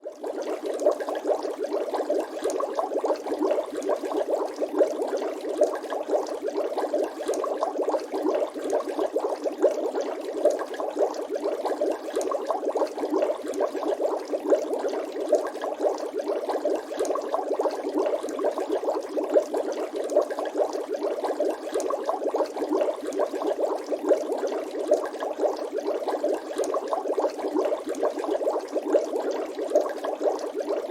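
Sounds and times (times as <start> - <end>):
water bubbling: 0.0 - 30.9.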